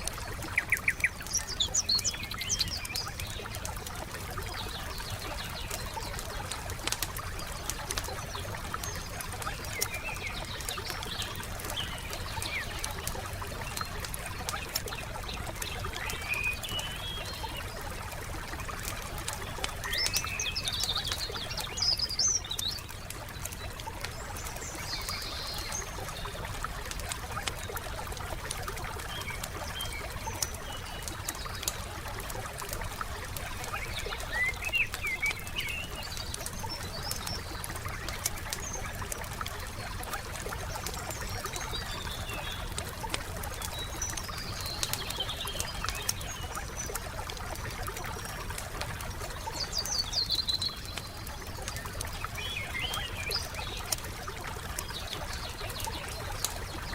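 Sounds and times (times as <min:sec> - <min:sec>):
campfire crackling and popping: 0:00.0 - 0:56.9
songbirds chirping: 0:00.0 - 0:56.9.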